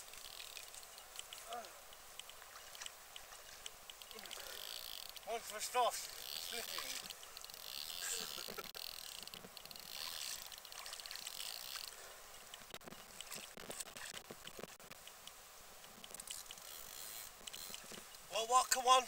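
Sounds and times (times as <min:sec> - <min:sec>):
small clicks: 0:00.0 - 0:18.9
fishing reel winding: 0:00.1 - 0:15.2, 0:15.9 - 0:18.1.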